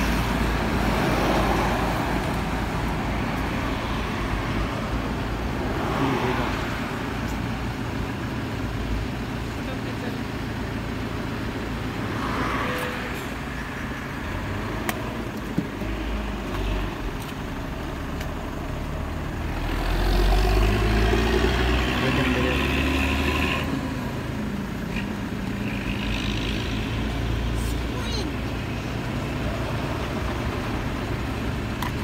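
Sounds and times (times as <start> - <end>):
road traffic rumbling: 0.0 - 32.0
vehicle engine: 0.0 - 32.0.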